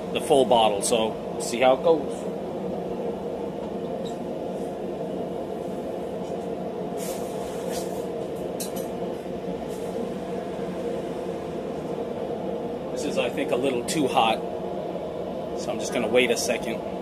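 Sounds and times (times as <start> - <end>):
forge roaring: 0.0 - 17.0.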